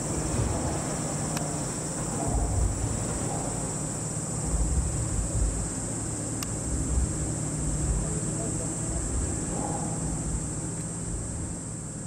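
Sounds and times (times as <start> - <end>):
cicadas droning: 0.0 - 12.0
low uneven rumble: 0.0 - 12.0.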